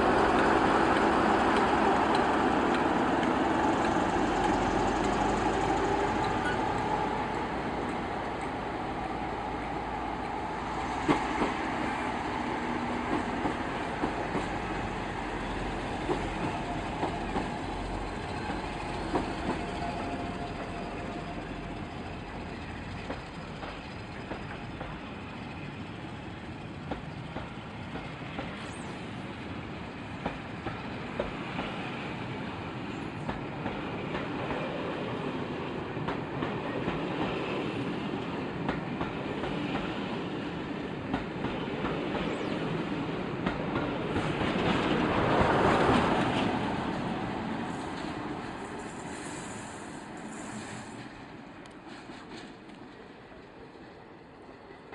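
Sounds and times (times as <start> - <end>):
train wheels clicking over rail joints: 0.0 - 8.6, 11.0 - 53.9.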